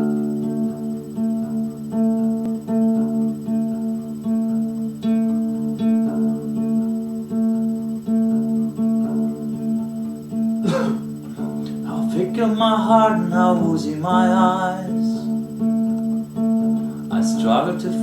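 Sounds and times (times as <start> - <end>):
acoustic guitar picking chords: 0.0 - 18.0.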